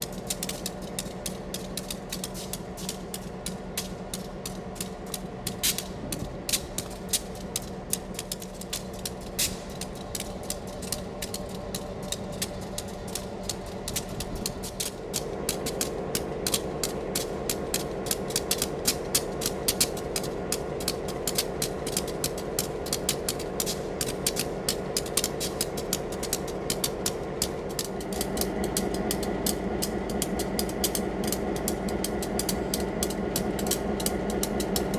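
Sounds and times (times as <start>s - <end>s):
diesel locomotive engine running: 0.0s - 34.9s
irregular clicking and clanking: 0.0s - 34.9s.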